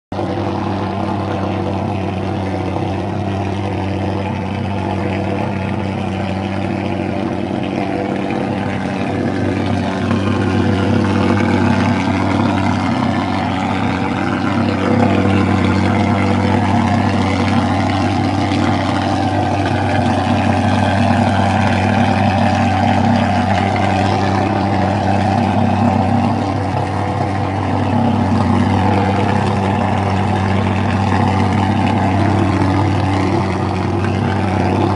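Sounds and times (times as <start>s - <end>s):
pulse-jet engine droning: 0.1s - 34.9s.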